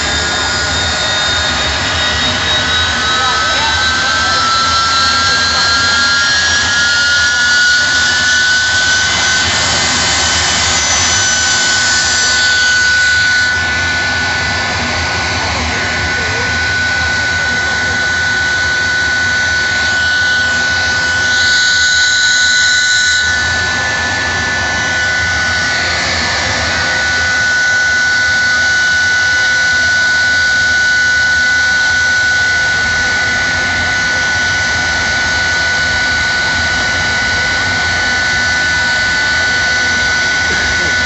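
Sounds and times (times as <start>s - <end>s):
jet engines whining: 0.0s - 41.0s.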